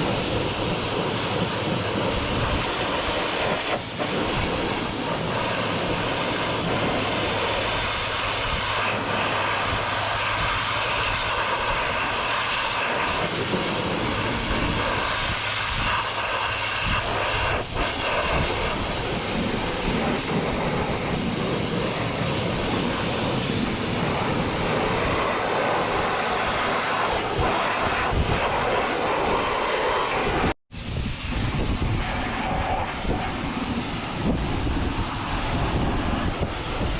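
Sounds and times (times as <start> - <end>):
pressure washer jet spraying: 0.0 - 31.4.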